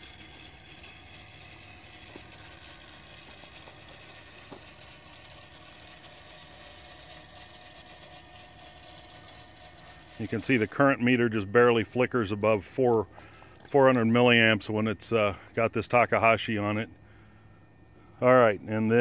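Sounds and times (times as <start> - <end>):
drive motors slewing: 0.0 - 15.6
power inverter hum and whine: 0.0 - 19.0.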